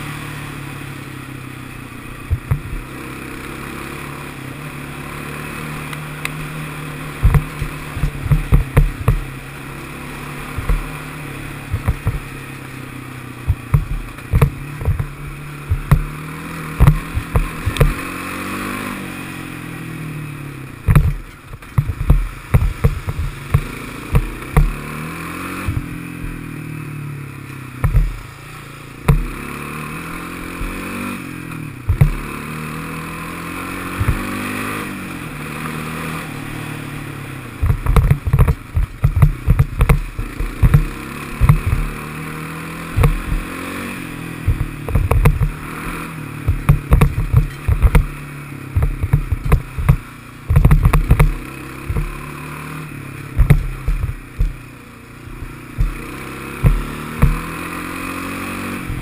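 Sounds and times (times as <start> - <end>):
knocks and clatter over rough trail: 0.0 - 59.0
quad bike engine running: 0.0 - 59.0.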